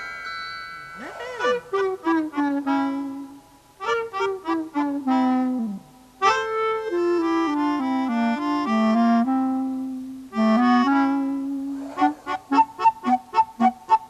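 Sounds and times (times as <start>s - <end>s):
reedy wind instrument melody: 1.0s - 14.0s.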